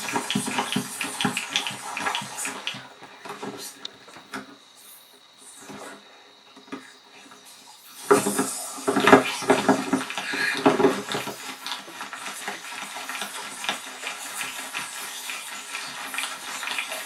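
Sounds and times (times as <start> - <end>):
hard objects clattering: 0.0 - 4.6, 8.0 - 17.0.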